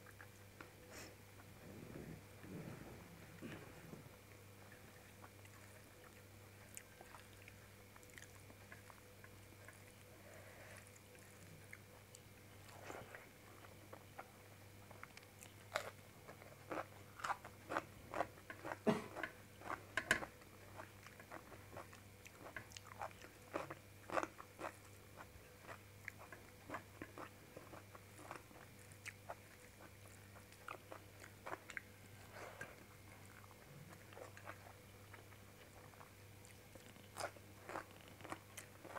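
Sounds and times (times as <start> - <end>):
faint steady hum: 0.0 - 38.9
person chewing food: 0.0 - 38.9.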